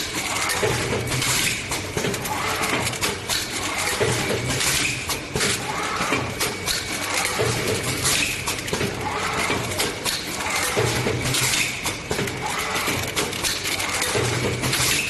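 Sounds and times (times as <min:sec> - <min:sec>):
packing machine clattering: 0:00.0 - 0:15.0.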